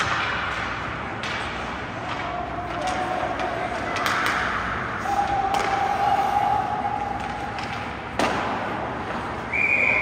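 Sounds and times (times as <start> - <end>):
noisy arena background: 0.0 - 10.0.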